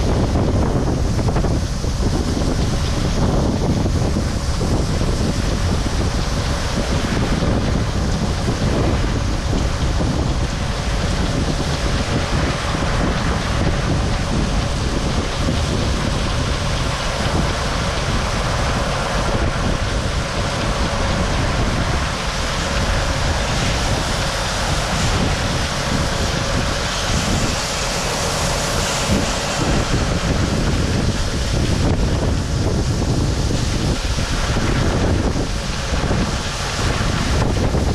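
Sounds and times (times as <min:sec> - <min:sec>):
farm harvest machinery running: 0:00.0 - 0:37.9
wind noise on microphone: 0:00.0 - 0:37.9.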